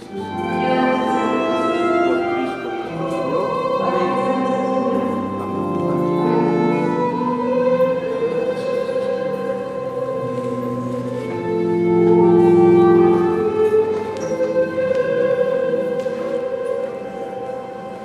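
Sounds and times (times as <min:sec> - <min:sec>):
person singing: 0:00.0 - 0:18.0
slow string music: 0:00.0 - 0:18.0.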